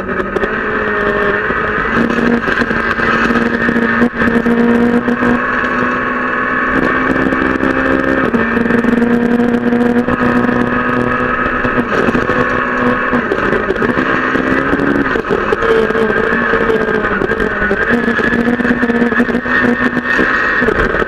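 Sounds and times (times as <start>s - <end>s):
gravel rattling against car: 0.0s - 21.0s
rally car engine changing gears: 0.0s - 21.0s.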